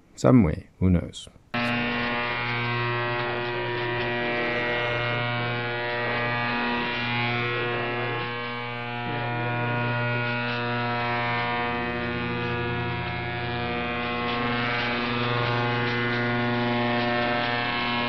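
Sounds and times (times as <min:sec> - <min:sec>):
loud steady radio buzz: 0:01.6 - 0:18.0.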